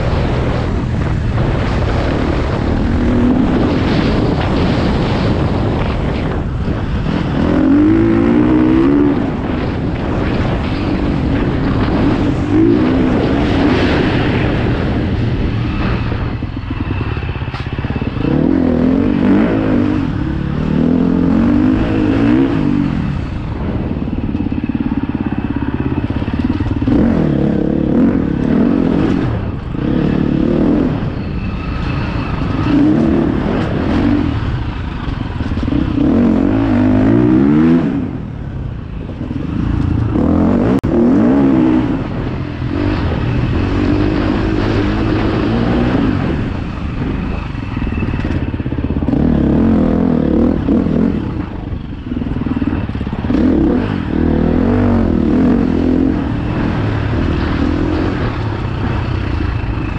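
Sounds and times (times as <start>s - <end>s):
dirt bike engine revving: 0.0s - 38.3s, 39.0s - 59.9s.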